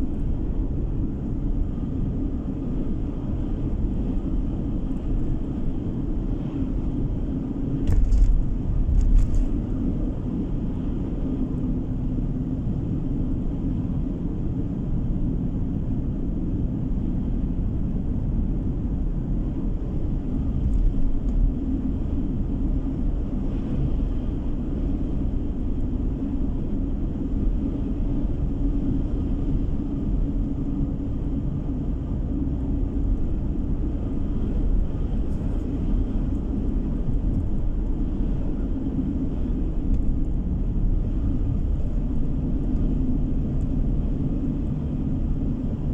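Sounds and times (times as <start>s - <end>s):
car driving heard from cabin: 0.0s - 45.9s.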